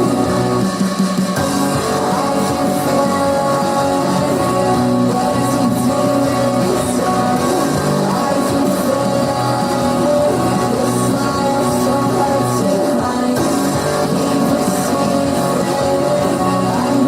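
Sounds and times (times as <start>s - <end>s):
live hip-hop music with guitar: 0.0s - 17.0s.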